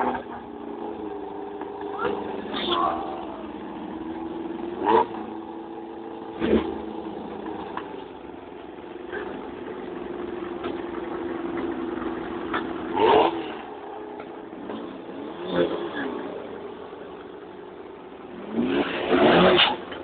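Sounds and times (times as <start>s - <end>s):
car engine running and revving: 0.0s - 20.0s.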